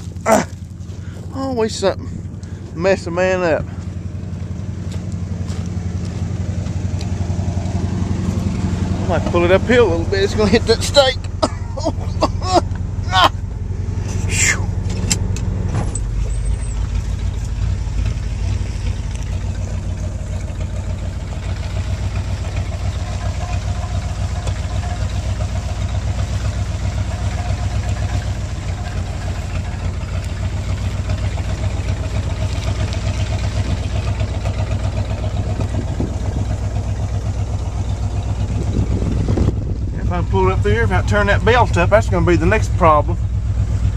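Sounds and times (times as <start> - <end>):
truck engine under load: 0.0 - 43.9.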